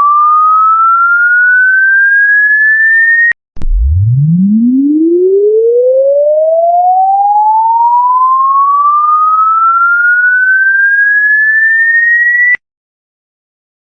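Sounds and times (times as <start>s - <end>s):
sine tone sweeping upward: 0.0s - 12.6s.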